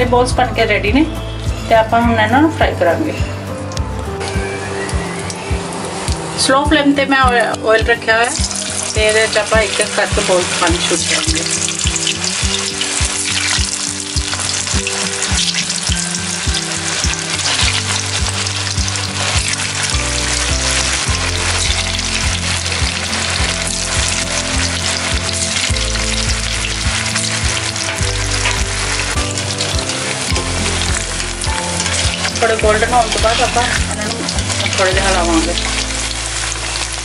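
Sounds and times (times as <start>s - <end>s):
food deep-frying in hot oil: 3.6s - 37.0s.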